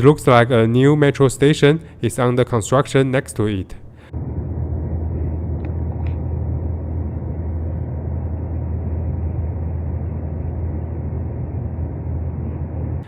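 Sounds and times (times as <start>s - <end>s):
train cabin rumble: 0.0s - 13.0s.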